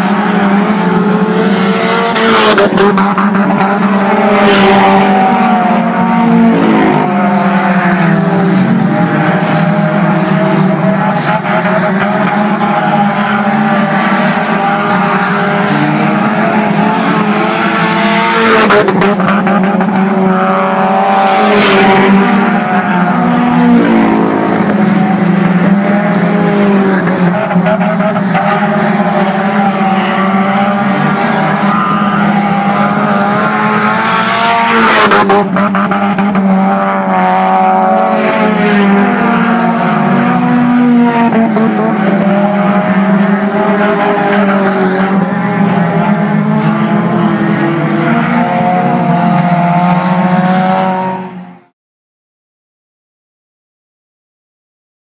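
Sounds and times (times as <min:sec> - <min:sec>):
race car engines droning: 0:00.0 - 0:51.7
race cars passing close: 0:00.0 - 0:51.7.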